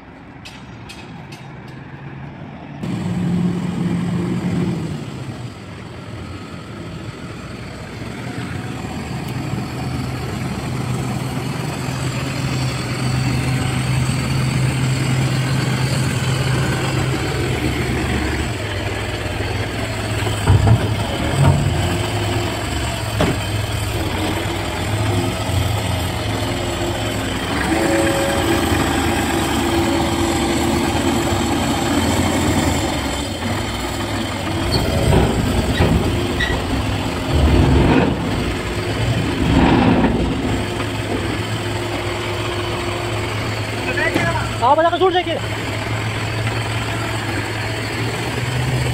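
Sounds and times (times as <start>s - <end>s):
garbage truck engine running: 2.8s - 48.9s.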